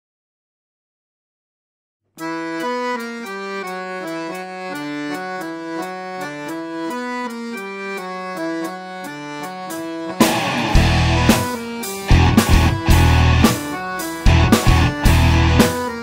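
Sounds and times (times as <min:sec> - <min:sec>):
accordion melody: 0:02.2 - 0:16.0.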